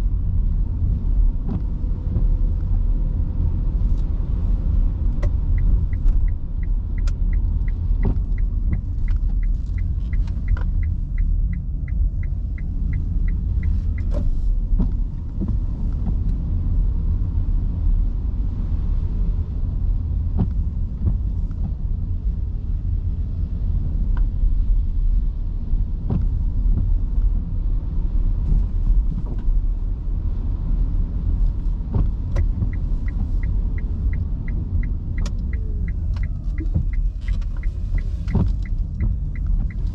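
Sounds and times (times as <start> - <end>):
road and tyre rumble: 0.0 - 39.9
turn signal ticking: 0.1 - 39.9.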